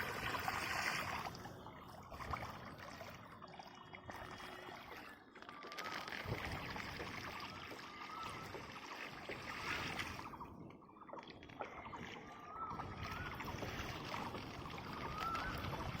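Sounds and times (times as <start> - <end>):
pressurised water gushing from pipe: 0.0 - 16.0.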